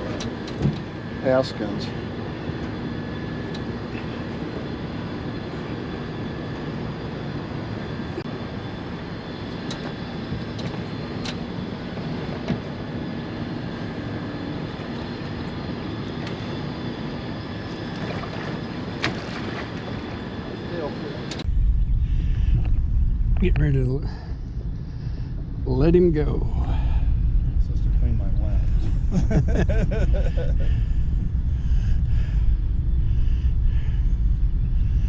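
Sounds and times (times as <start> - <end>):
low engine-like drone: 0.0 - 35.0.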